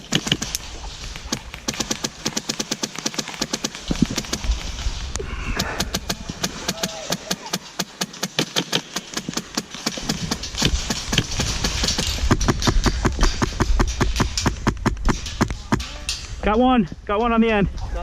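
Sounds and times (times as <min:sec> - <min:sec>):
airsoft guns firing rapidly: 0:00.0 - 0:15.9.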